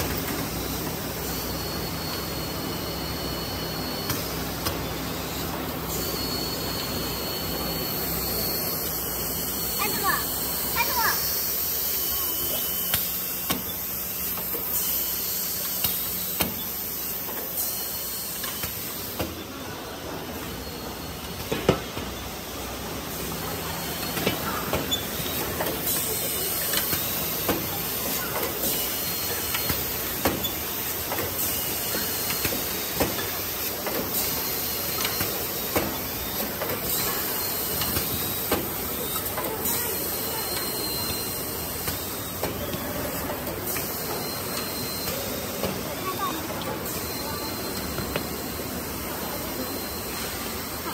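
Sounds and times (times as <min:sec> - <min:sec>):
packaging machinery running: 0:00.0 - 0:50.9.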